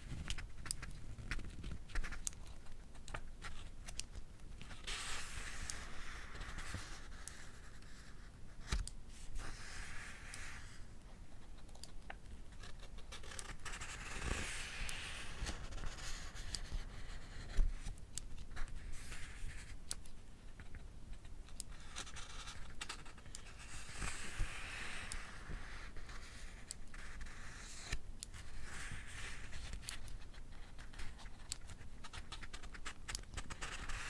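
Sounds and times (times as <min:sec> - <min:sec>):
book pages turning: 0:00.2 - 0:10.8, 0:11.8 - 0:18.0, 0:21.8 - 0:34.0.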